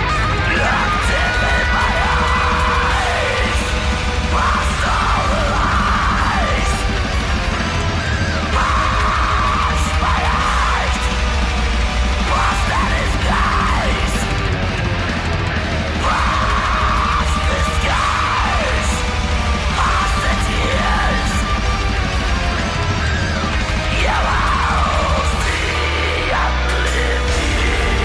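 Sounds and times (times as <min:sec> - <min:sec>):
harsh yelled vocals: 0:00.0 - 0:28.0
heavy metal band playing: 0:00.0 - 0:28.0.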